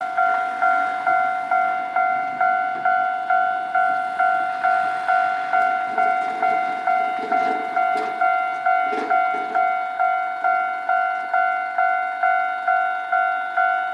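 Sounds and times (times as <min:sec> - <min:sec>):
level crossing warning bell ringing: 0:00.0 - 0:13.9.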